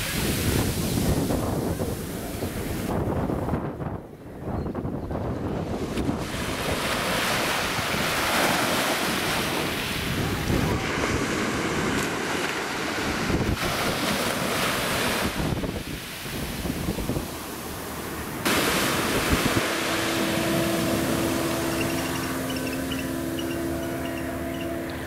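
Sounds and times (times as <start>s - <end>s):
small waves washing on sand: 0.0s - 3.6s, 5.4s - 24.3s
wind buffeting microphone: 0.0s - 25.0s.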